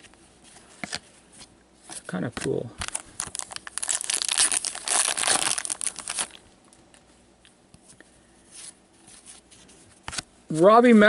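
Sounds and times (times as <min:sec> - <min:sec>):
cards rustling and crinkling: 0:00.0 - 0:06.4, 0:07.8 - 0:11.0.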